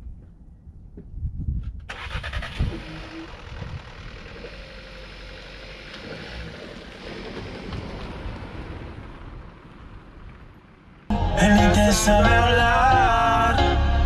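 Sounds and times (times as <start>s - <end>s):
car engine cranking and idling: 1.9s - 13.6s.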